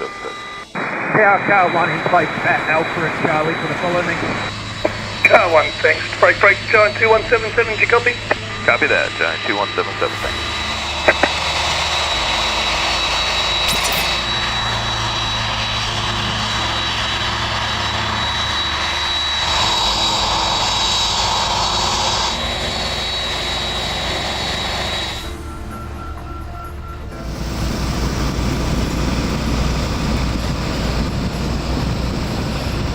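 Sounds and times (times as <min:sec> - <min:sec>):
jet engines running: 0:00.0 - 0:32.9.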